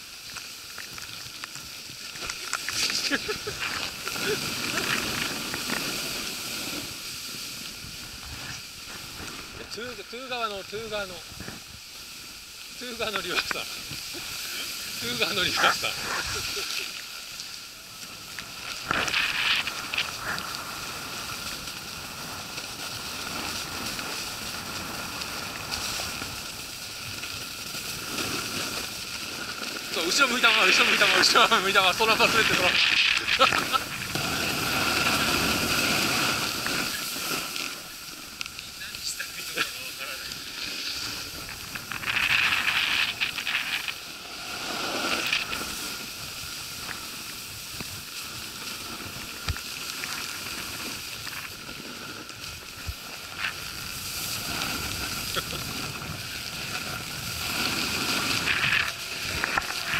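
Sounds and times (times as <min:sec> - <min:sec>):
snowboards sliding over snow: 0:00.0 - 0:59.9.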